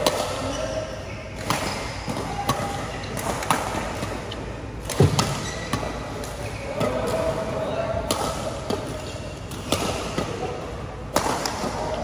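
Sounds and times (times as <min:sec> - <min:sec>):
sports hall background noise: 0:00.0 - 0:12.0
rackets hitting shuttlecock: 0:01.4 - 0:12.0.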